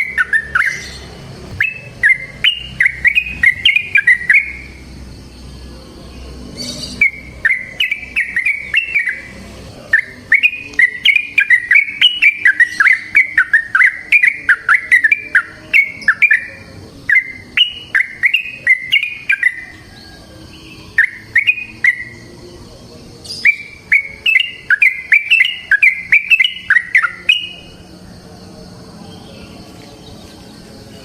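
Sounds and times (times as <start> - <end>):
bulbul singing chirping notes: 0.0 - 31.0.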